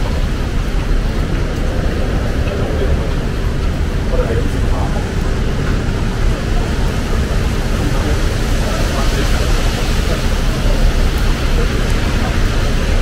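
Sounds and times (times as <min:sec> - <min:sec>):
low rumble of traffic: 0:00.0 - 0:13.0
people's voices: 0:00.0 - 0:13.0.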